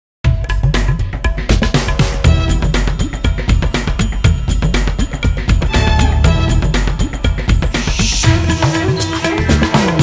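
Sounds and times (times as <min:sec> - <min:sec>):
music with driving drum beat: 0:00.2 - 0:10.0.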